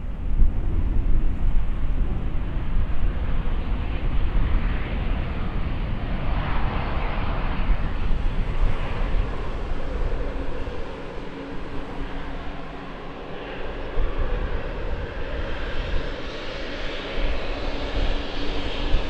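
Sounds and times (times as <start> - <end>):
jet engines roaring: 1.6 - 19.0.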